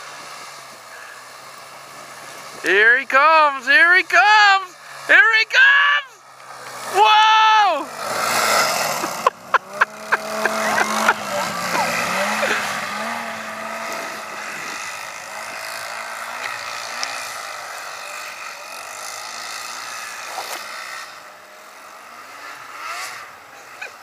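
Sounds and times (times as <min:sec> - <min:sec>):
snowmobile and atv engines revving: 0:00.0 - 0:24.0.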